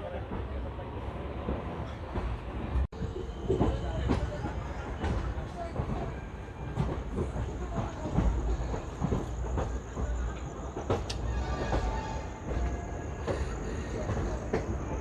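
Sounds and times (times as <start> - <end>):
train rumbling on track: 0.0 - 15.0
train wheels clattering: 1.8 - 15.0.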